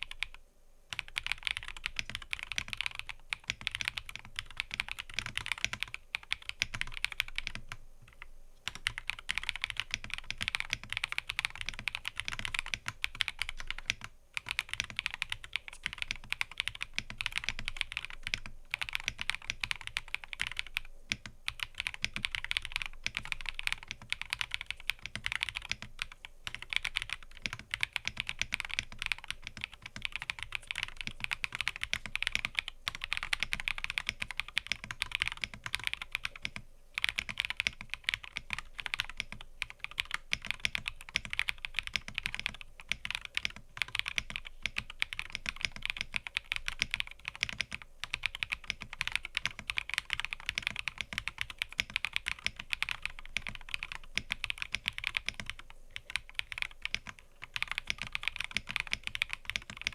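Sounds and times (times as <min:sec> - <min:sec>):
mechanical keyboard typing: 0:00.0 - 0:59.9.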